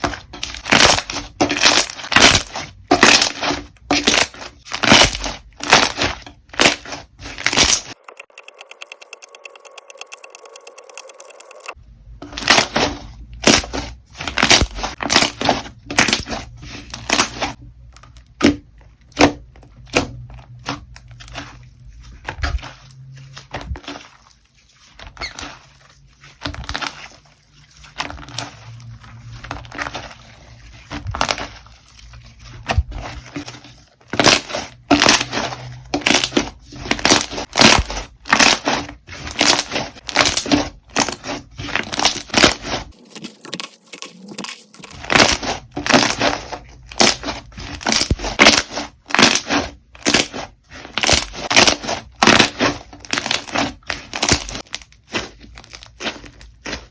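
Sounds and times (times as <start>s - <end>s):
slime squishing: 0.0s - 8.3s, 11.7s - 56.9s.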